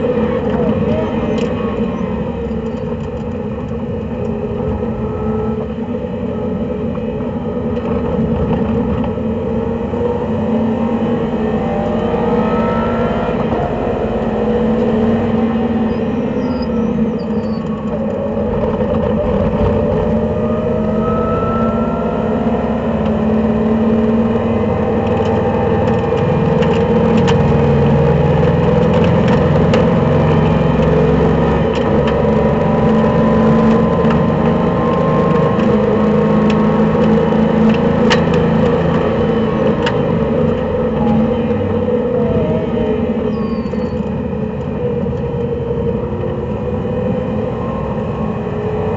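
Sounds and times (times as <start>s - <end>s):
race car engine at full throttle: 0.0s - 48.9s.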